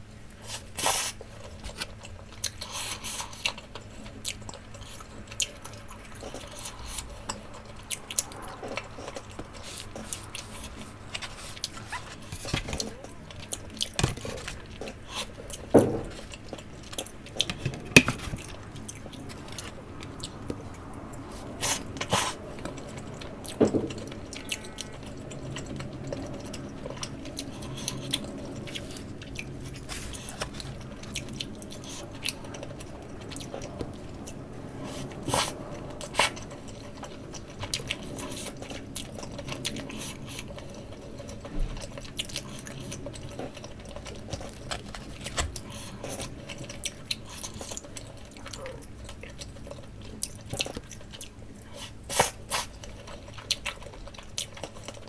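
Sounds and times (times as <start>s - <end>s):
wet chewing and biting: 0.3s - 55.0s.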